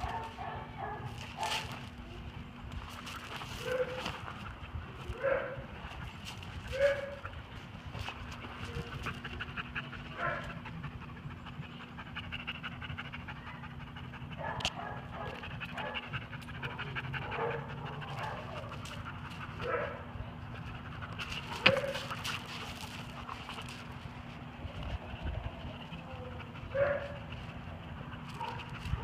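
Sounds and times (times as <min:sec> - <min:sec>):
dog panting: 0:02.9 - 0:29.0.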